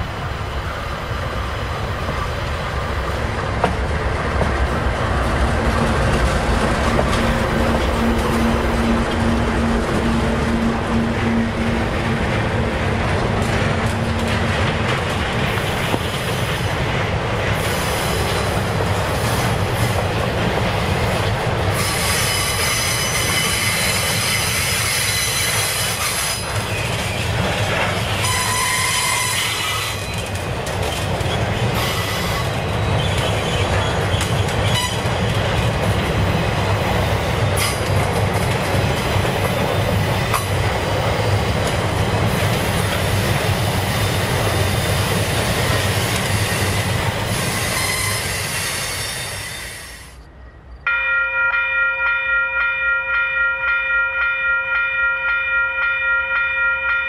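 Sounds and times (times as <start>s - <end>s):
train rumble and wheel clatter: 0.0s - 57.0s.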